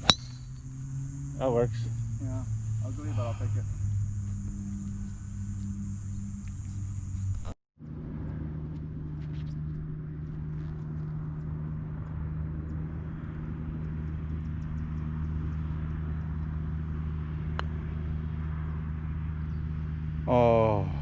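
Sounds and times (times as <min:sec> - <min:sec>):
road noise: 0:00.0 - 0:21.0
vehicle engine hum: 0:00.0 - 0:21.0.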